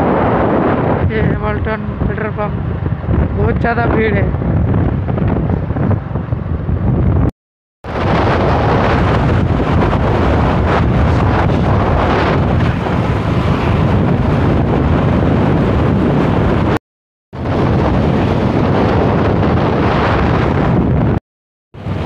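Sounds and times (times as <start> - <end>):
wind buffeting microphone: 0.0 - 16.8, 17.4 - 21.2, 21.8 - 22.0.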